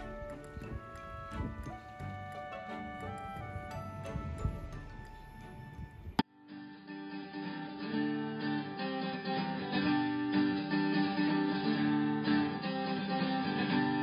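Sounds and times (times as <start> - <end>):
plucked acoustic guitar music: 0.0 - 14.0.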